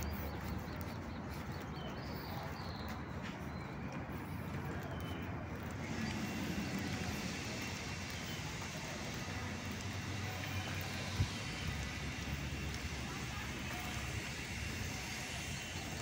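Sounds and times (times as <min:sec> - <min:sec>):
footsteps on pavement: 0:00.0 - 0:16.0.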